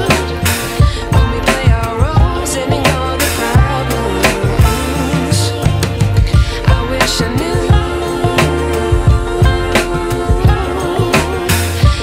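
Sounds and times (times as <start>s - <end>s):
deep bass line: 0.0s - 12.0s
steady drum beat: 0.0s - 12.0s
sustained instrumental tones: 0.0s - 12.0s.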